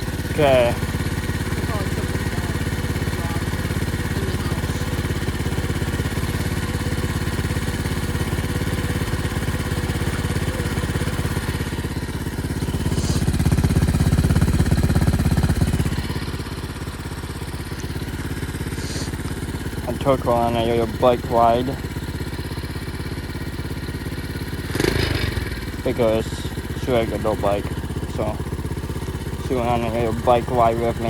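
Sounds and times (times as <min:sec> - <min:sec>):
small motorbike engine revving: 0:00.0 - 0:31.0.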